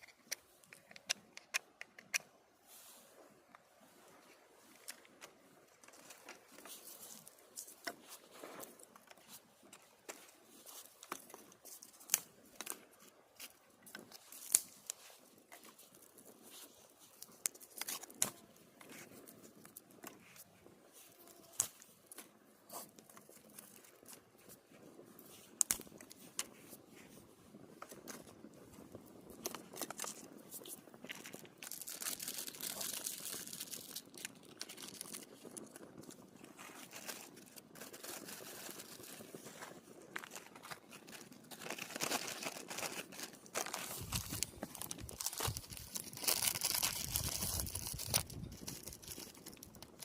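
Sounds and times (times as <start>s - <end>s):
campfire crackling and popping: 3.6s - 50.0s.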